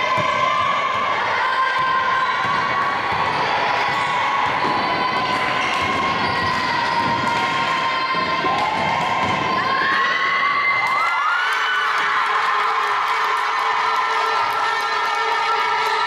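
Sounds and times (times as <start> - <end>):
young voices shouting and cheering: 0.0 - 16.0.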